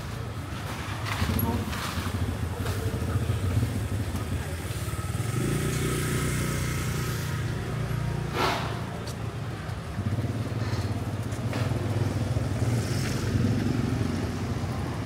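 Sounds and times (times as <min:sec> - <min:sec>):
motorbike engine running: 0:00.7 - 0:15.0.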